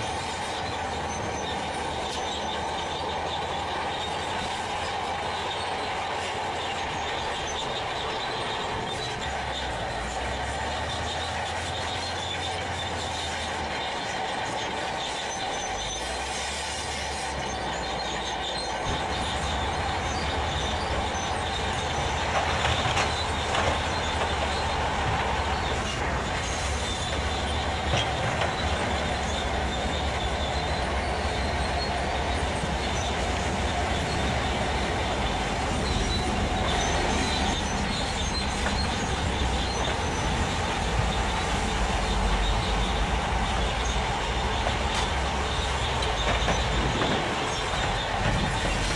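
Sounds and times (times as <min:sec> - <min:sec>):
heavy truck running: 0:00.0 - 0:48.9
high squealing whine: 0:00.0 - 0:48.9.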